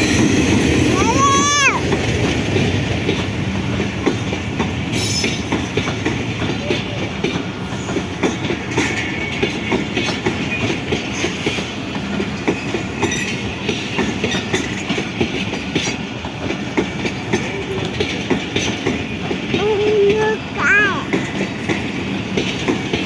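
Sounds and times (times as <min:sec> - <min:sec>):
train coaches rumbling past: 0:00.0 - 0:23.0
wheels clicking over rail joints: 0:00.0 - 0:23.0.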